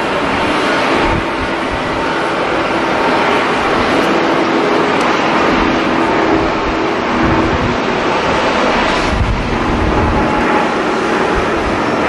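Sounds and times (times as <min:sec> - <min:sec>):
jet engines roaring: 0:00.0 - 0:12.0
wind buffeting microphone: 0:00.0 - 0:12.0.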